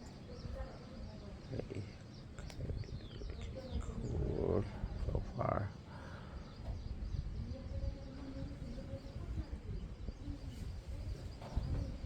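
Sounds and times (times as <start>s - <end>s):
faint bird calls and chirps: 0.0s - 12.0s.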